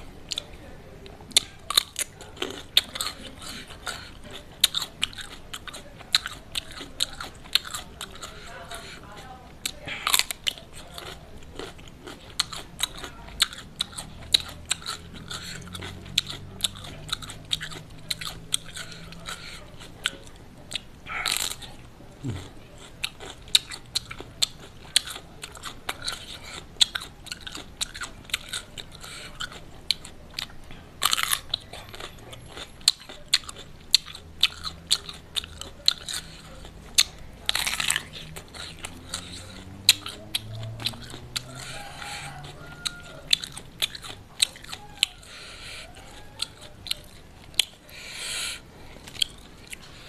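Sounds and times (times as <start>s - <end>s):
crunching and chewing cucumber: 0.0s - 50.0s.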